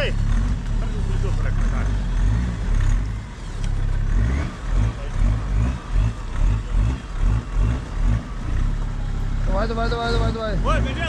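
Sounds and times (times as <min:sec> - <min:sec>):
engine rumbling and revving: 0:00.0 - 0:11.0.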